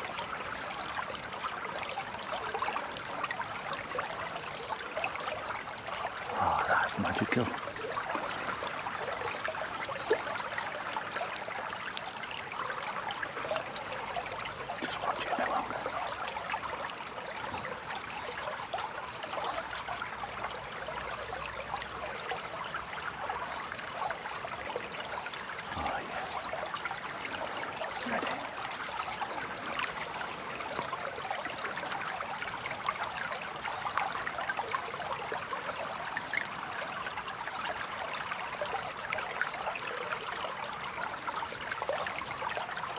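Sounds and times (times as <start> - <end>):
stream trickling over branches: 0.0 - 42.9.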